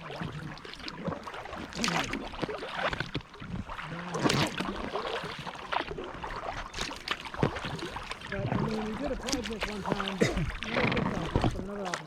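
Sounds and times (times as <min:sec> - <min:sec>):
paddle splashing in water: 0:00.0 - 0:12.0
water washing against hull: 0:00.0 - 0:12.0.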